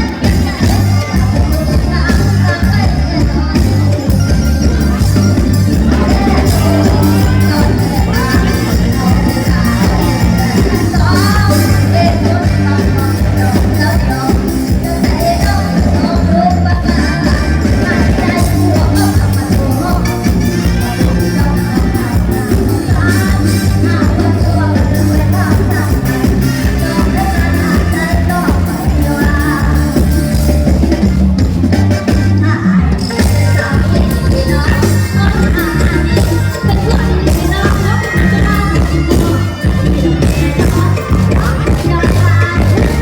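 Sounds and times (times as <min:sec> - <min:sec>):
heavy bass: 0:00.0 - 0:43.0
person singing: 0:00.0 - 0:43.0
steady drum beat: 0:00.0 - 0:43.0.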